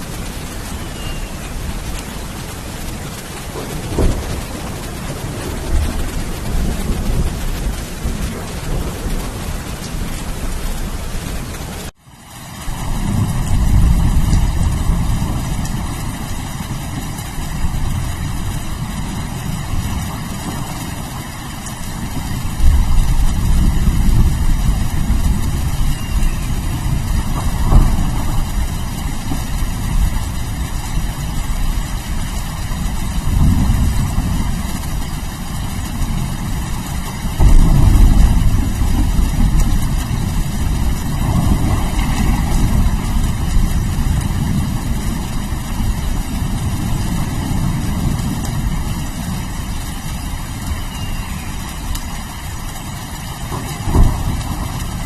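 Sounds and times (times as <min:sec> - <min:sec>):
thunder rumble: 0:00.0 - 0:12.0, 0:12.6 - 0:55.0
rain hiss: 0:00.0 - 0:55.0.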